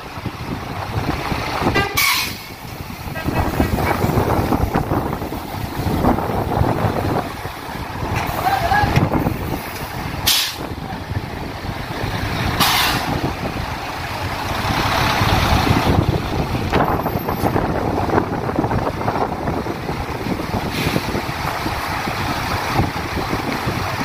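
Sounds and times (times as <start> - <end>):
diesel trucks idling: 0.0 - 24.0.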